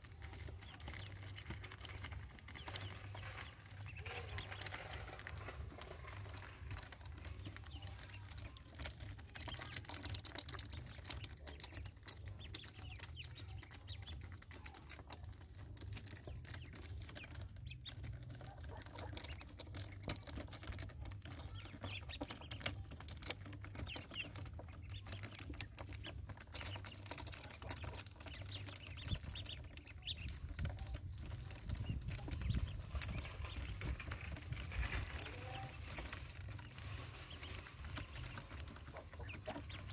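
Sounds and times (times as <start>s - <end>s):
bills pecking at a dish: 0.0s - 39.9s
ducklings peeping: 0.0s - 39.9s
small feet on plastic mesh: 0.0s - 39.9s.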